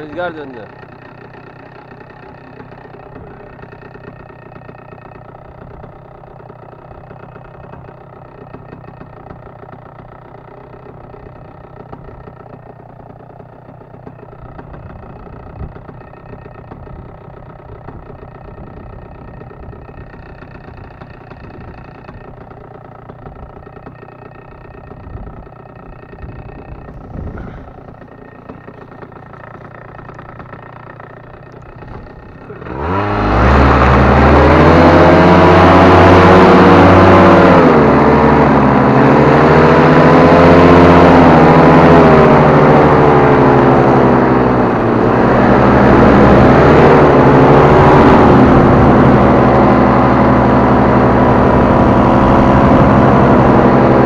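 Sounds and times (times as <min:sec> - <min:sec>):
paramotor engine idling: 0:00.0 - 0:54.0
uneven low rumbling: 0:00.0 - 0:54.0.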